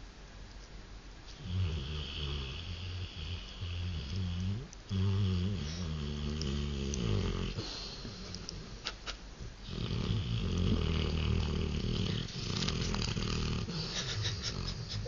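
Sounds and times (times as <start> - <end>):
dog snoring: 1.4 - 8.6, 9.6 - 15.0
dog breathing: 1.4 - 8.8, 9.6 - 15.0.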